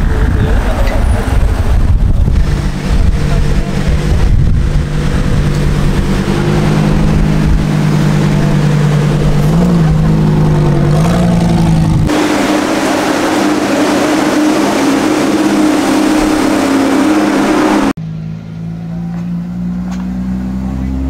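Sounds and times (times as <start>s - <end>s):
car engine running at low revs: 0.0s - 21.0s
different car engine: 0.0s - 21.0s.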